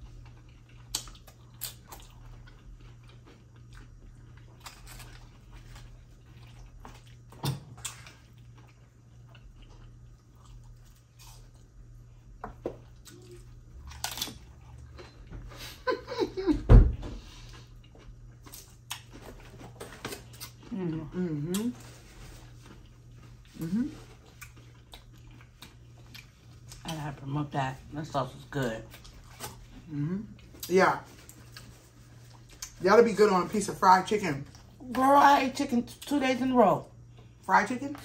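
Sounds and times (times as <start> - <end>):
crunching and chewing chips: 0.0 - 15.6, 17.2 - 27.2, 28.0 - 35.1.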